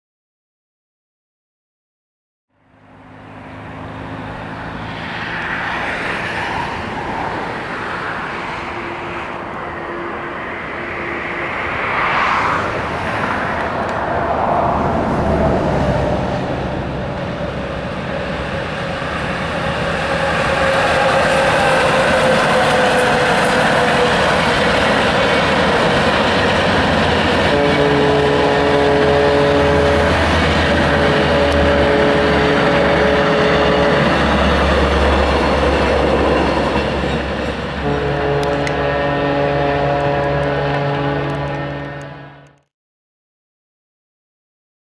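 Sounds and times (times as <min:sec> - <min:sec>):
train rumbling: 0:02.6 - 0:42.6.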